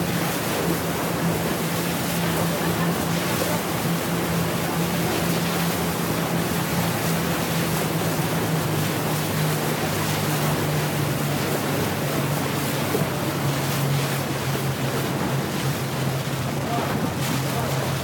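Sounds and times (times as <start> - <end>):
motorboat engine drone: 0.0 - 18.0
water and wind rushing: 0.0 - 18.0.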